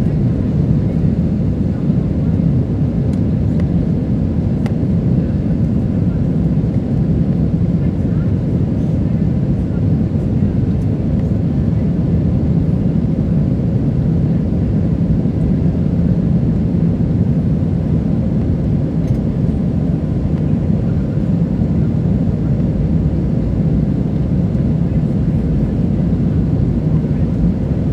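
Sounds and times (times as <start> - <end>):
jet engines droning: 0.0 - 27.9.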